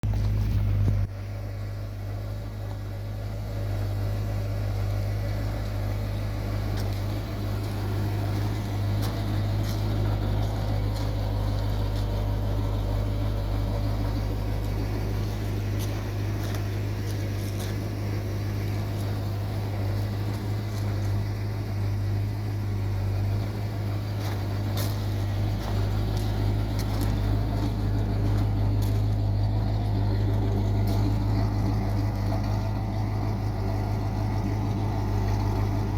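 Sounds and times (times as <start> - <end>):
pickup truck engine running: 0.0 - 35.9.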